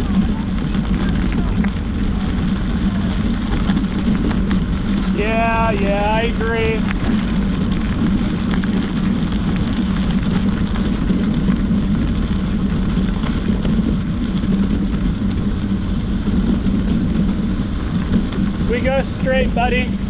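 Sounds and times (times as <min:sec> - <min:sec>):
faint crackles: 0:00.0 - 0:20.0
low rumbling noise: 0:00.0 - 0:20.0.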